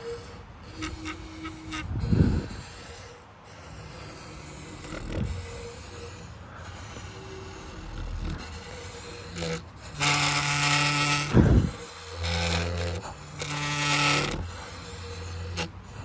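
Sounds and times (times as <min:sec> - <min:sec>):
wood rubbed along its edge: 0:00.0 - 0:16.0.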